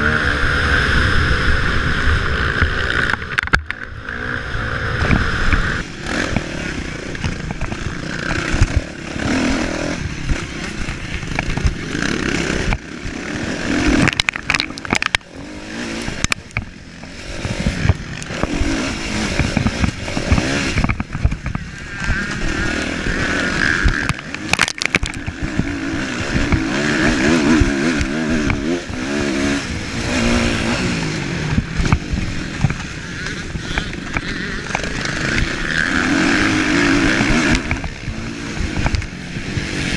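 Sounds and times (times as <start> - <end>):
motocross bike engine revving: 0.0 - 39.9
wind noise: 0.0 - 39.9.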